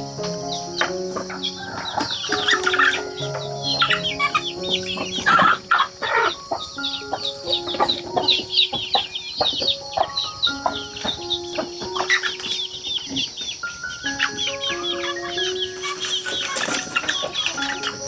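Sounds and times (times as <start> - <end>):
background music with held notes: 0.0 - 18.0
chickens clucking: 0.0 - 18.0
high chick chirps: 0.0 - 18.0.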